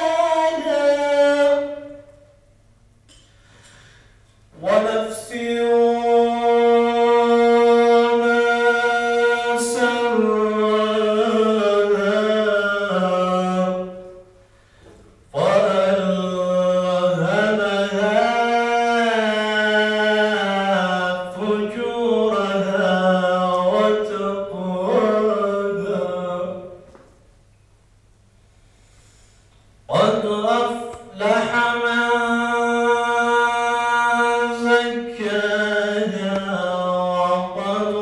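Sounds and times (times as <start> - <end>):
man chanting: 0.0 - 2.4, 4.6 - 14.3, 15.3 - 26.9, 29.9 - 38.0.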